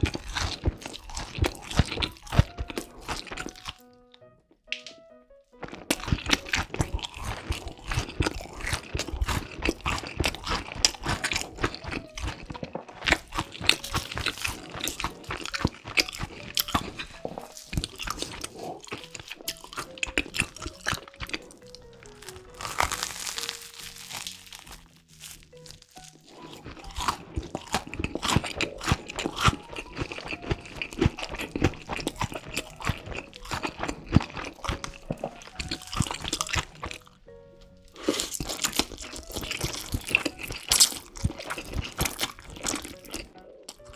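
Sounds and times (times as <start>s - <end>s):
crunching bites and chewing: 0.0s - 5.0s, 5.6s - 43.9s
soft background music: 0.0s - 43.9s.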